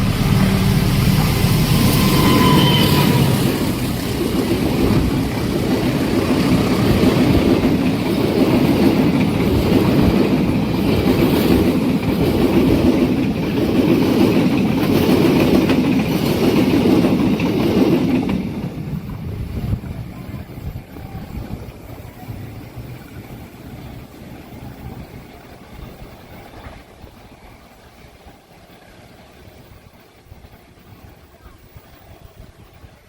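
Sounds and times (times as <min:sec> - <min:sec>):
train wheels clattering on rails: 0:00.0 - 0:30.7.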